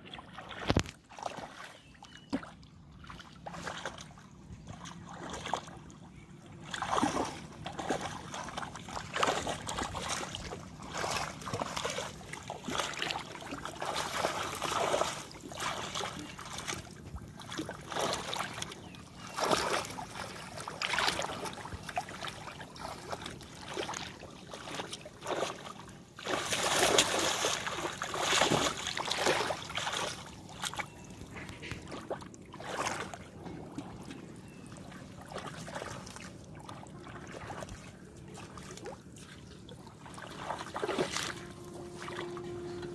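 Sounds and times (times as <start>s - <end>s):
shallow water splashing: 0.0s - 42.9s.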